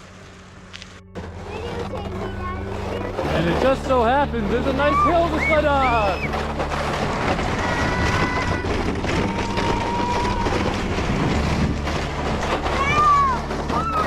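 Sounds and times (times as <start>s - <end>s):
sled scraping over icy snow: 0.0s - 14.0s.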